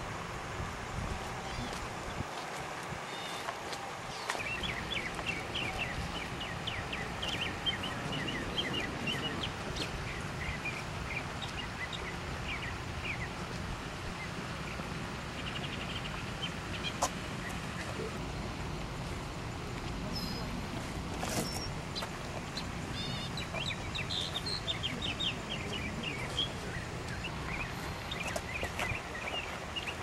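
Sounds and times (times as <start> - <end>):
low outdoor background noise: 0.0 - 30.0
birds chirping: 1.2 - 30.0.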